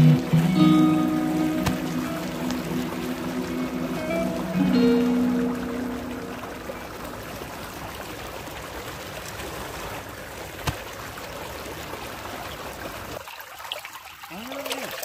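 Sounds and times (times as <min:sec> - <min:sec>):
water flowing along a channel: 0:00.0 - 0:15.0.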